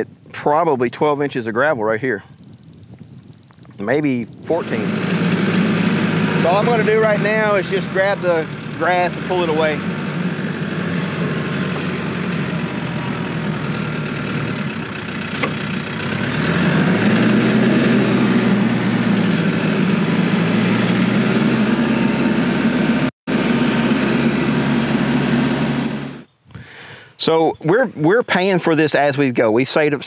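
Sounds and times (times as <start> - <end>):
tractor diesel engine running: 2.1 - 26.3.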